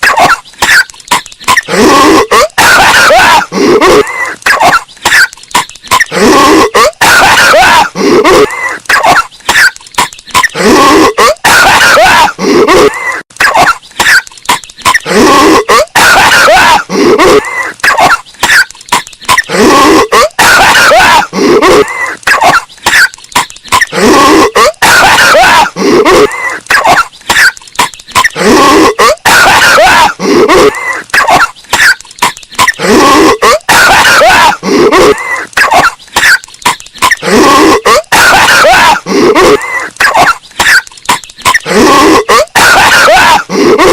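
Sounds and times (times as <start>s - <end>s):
cartoon character coughing: 0.0s - 5.3s, 5.9s - 43.9s.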